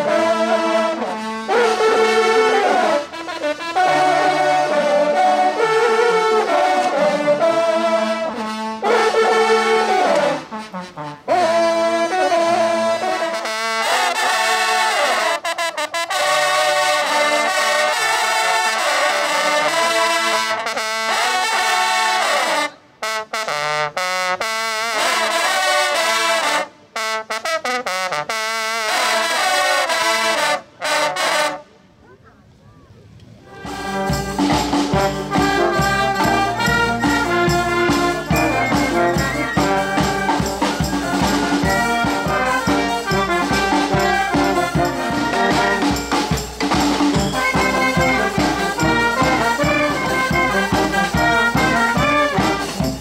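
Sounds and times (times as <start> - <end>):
hunting horns playing fanfare: 0.0 - 32.0, 33.4 - 53.0.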